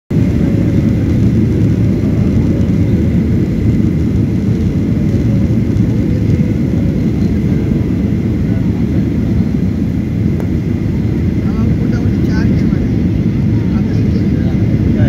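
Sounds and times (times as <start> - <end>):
airliner engine and airflow rumble: 0.1 - 15.0.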